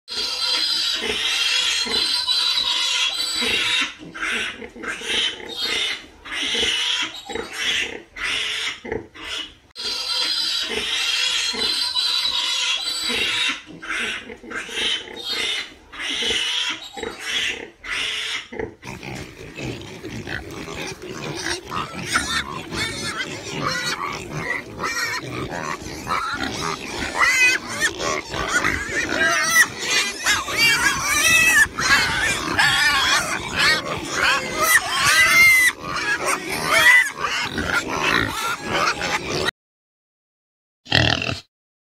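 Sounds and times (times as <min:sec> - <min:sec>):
piglets squealing: 0:00.1 - 0:39.5, 0:40.9 - 0:41.5
pigs grunting: 0:00.1 - 0:39.5, 0:40.9 - 0:41.5.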